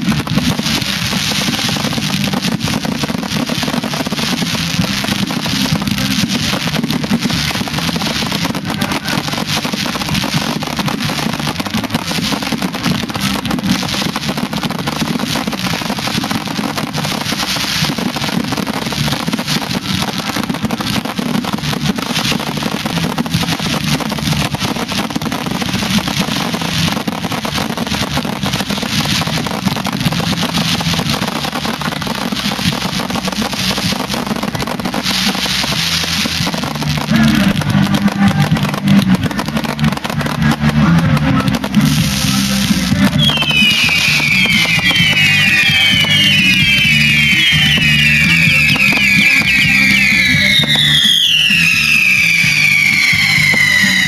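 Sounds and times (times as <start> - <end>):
fireworks hissing and crackling: 0.0 - 54.0.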